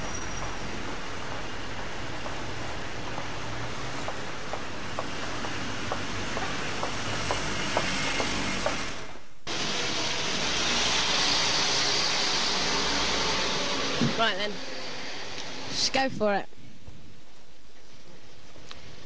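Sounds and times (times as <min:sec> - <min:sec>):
background noise: 0:00.0 - 0:19.0.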